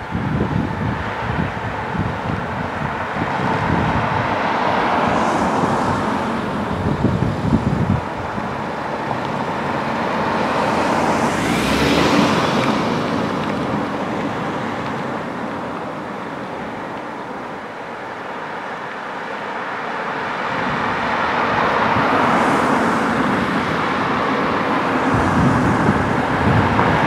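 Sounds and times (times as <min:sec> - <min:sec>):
wind rumbling on microphone: 0:00.0 - 0:17.7, 0:20.3 - 0:27.0
cars passing: 0:00.0 - 0:27.0.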